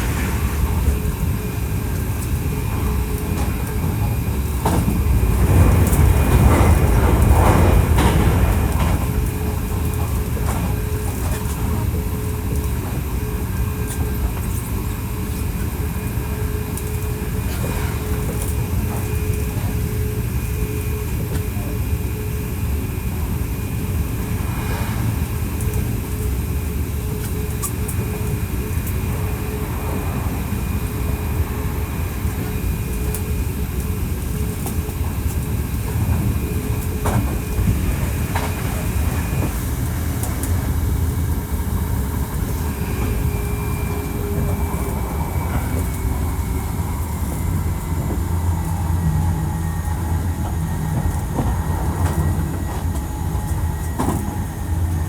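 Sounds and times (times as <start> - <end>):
train motor and inverter whine: 0.0 - 55.0
train wheels rumbling on rail: 0.0 - 55.0.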